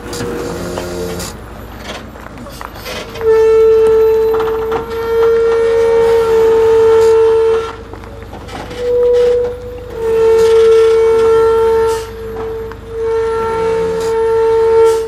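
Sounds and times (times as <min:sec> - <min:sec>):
horn blasts: 0:00.0 - 0:08.0, 0:08.6 - 0:15.0.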